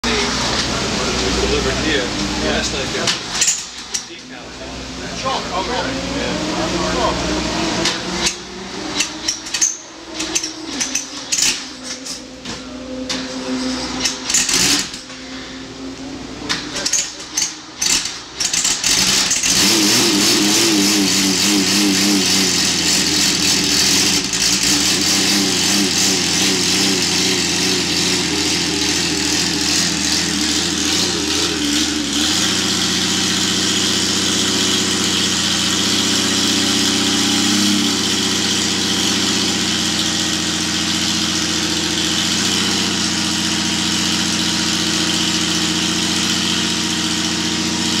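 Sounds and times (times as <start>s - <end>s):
racing engine revving and idling: 0.0s - 48.0s.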